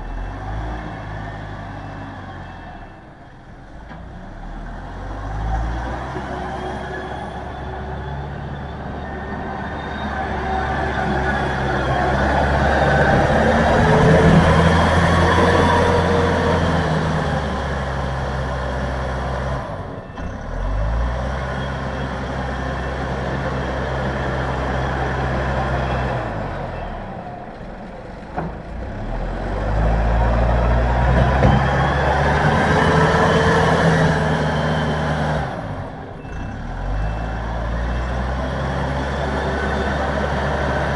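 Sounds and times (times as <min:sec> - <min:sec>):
loader engine revving under load: 0:00.0 - 0:40.9.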